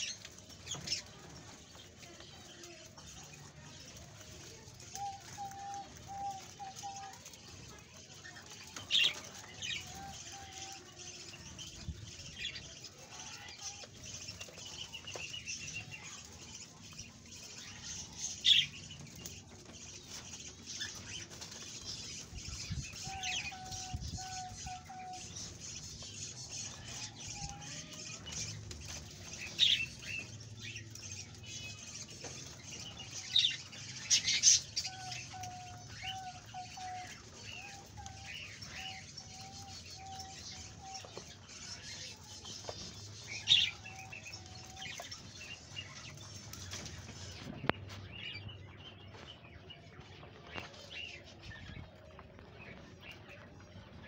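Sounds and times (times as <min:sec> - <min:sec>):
rabbits chewing dry husks: 0:00.0 - 0:54.0.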